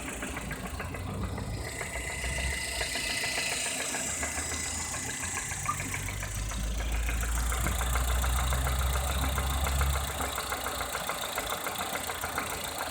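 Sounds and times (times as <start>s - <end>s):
car engine knocking: 0.0s - 12.9s.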